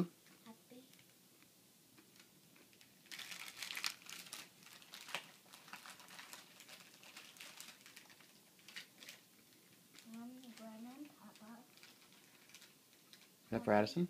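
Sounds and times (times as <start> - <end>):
wrapping paper crinkling and tearing: 2.1 - 13.4.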